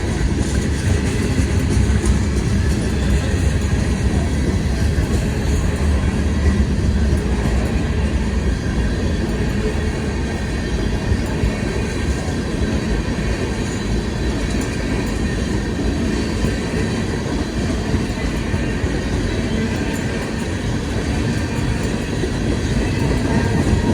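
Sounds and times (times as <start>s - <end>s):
freight train wheels rumbling: 0.0s - 23.9s.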